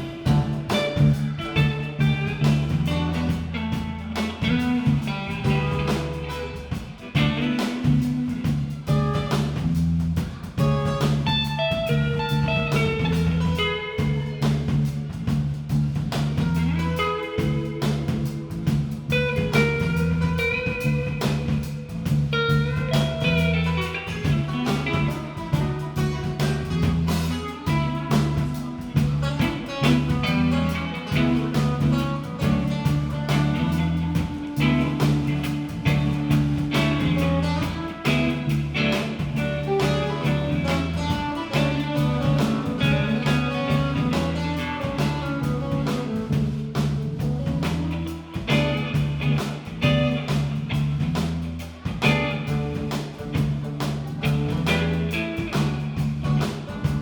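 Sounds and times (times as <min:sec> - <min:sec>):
bass line: 0:00.0 - 0:57.0
drum kit: 0:00.0 - 0:57.0
guitar lines: 0:00.0 - 0:57.0.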